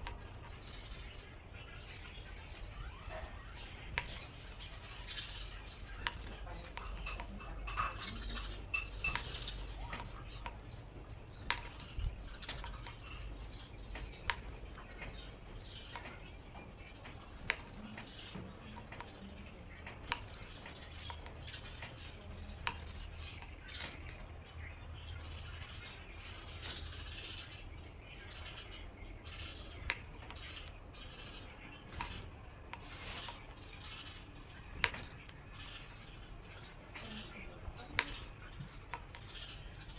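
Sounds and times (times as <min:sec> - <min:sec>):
wing flutters: 0:00.0 - 0:07.4, 0:08.0 - 0:24.2, 0:28.4 - 0:39.9
bird chirps: 0:00.0 - 0:39.9.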